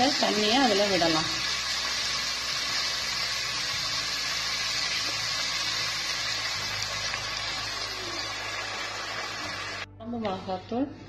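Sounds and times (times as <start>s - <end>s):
vegetables sizzling in a cooker: 0.0s - 9.9s.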